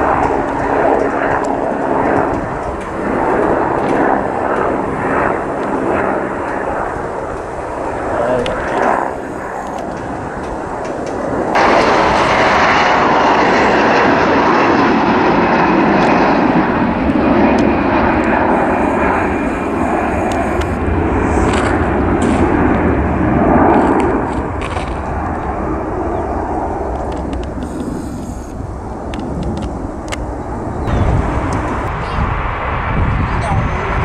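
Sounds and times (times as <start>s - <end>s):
jet engine roar at takeoff: 0.0s - 34.0s.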